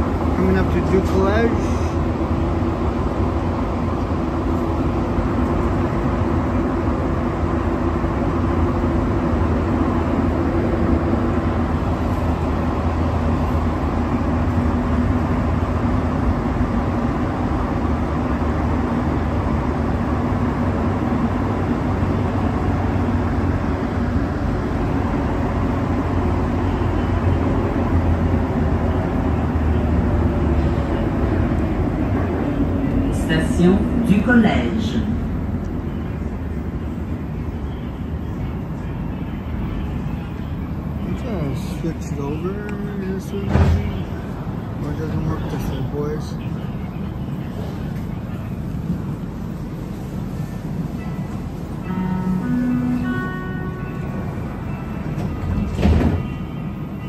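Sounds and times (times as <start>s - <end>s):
subway train motors and tyres rumbling: 0.0s - 57.0s.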